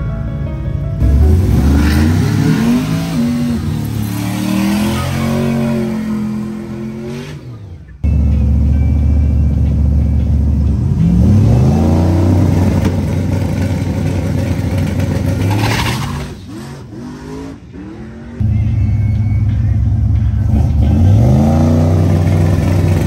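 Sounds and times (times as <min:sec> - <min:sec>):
truck engines revving: 0:01.0 - 0:23.0.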